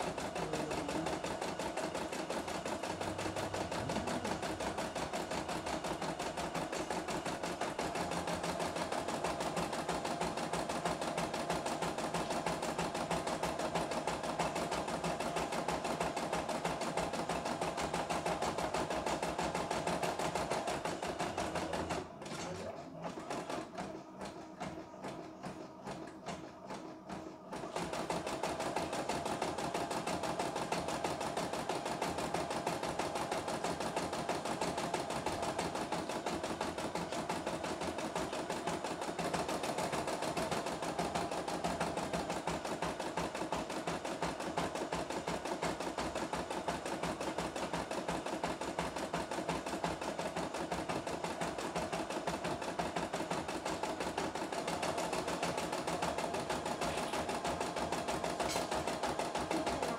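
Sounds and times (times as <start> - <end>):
embroidery machine stitching: 0.0 - 59.9.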